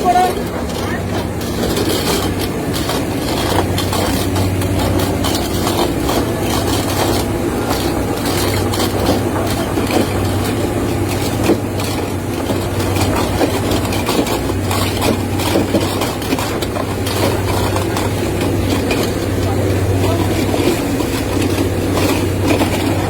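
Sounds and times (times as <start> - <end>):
boat engine humming: 0.0 - 23.0
knocks and clatter: 0.0 - 23.0.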